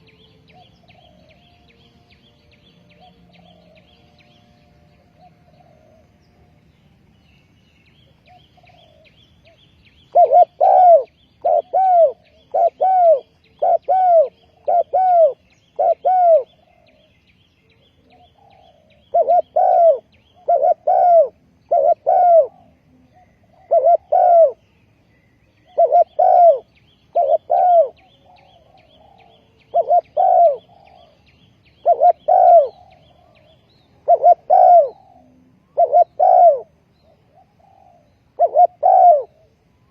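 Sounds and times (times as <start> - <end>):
dove cooing: 0.0 - 1.7, 2.8 - 4.3, 4.9 - 6.3, 8.1 - 24.6, 25.6 - 39.6
small birds chirping: 0.0 - 39.9.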